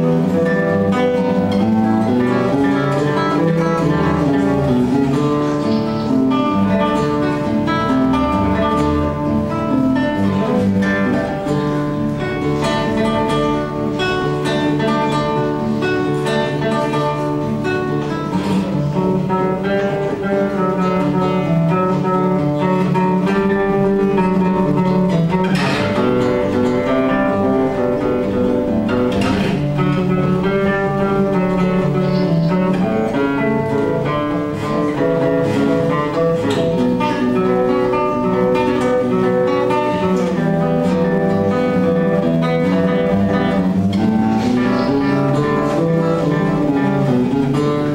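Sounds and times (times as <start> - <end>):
plucked acoustic guitar melody: 0.0 - 47.9.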